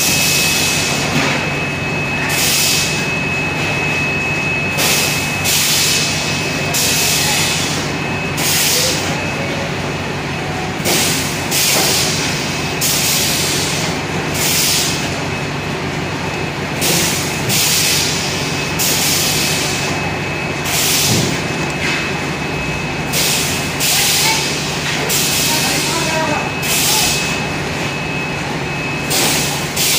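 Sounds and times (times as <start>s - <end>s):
machine hum with high whine: 0.0s - 29.9s.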